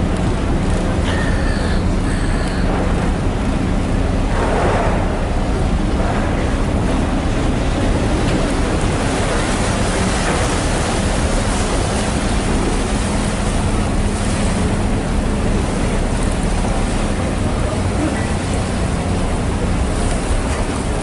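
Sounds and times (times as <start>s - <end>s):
ferry engine droning: 0.0s - 21.0s
harbour water: 0.0s - 21.0s.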